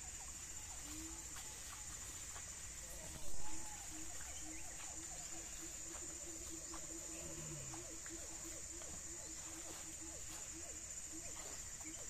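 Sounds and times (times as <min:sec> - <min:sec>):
high-pitched insect drone: 0:00.0 - 0:12.0
insect chirps: 0:00.0 - 0:12.0.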